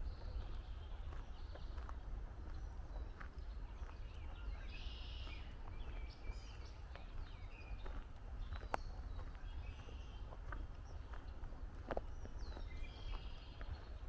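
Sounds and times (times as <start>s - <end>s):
footsteps on a trail: 0.0s - 14.0s
songbirds chirping and trilling: 0.0s - 14.0s.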